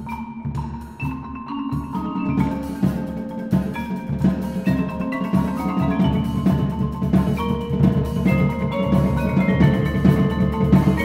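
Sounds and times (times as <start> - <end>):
drum strokes: 0.0 - 11.0
marimba quick notes: 0.0 - 11.0.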